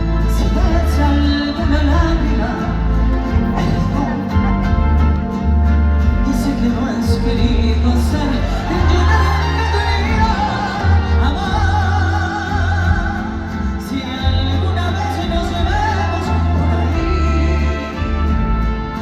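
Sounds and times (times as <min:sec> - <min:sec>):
band playing with heavy bass: 0:00.0 - 0:19.0.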